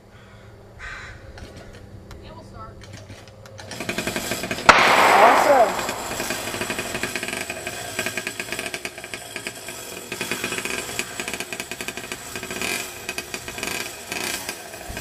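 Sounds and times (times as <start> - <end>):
small gasoline engine puttering: 2.8 - 15.0.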